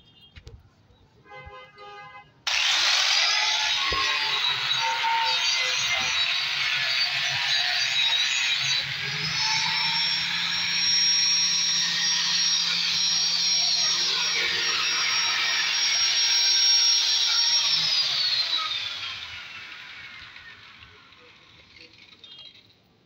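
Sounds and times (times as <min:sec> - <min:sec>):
angle grinder on metal: 0:02.5 - 0:22.0
grinder disc spinning down: 0:02.5 - 0:22.3.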